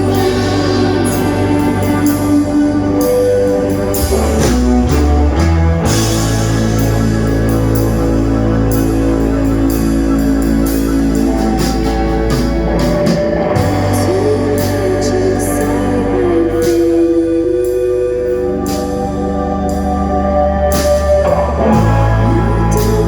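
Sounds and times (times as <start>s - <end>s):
person singing: 0.0s - 23.0s
rock band playing: 0.0s - 23.0s.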